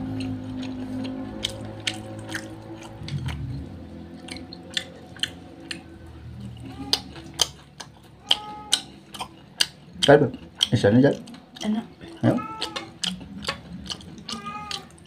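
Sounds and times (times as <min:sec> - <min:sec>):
crunching fried chicken: 0:00.0 - 0:15.0
mouth clicks: 0:00.2 - 0:15.0.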